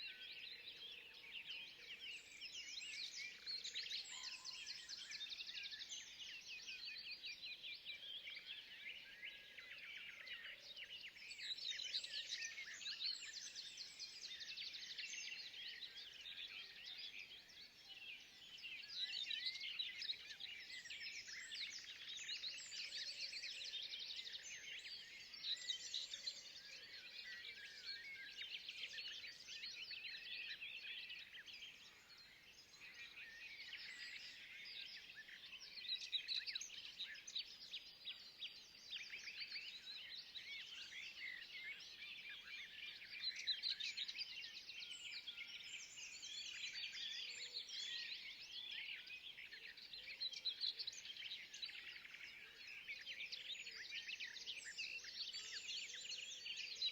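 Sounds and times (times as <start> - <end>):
chorus of birds chirping: 0.0 - 56.9.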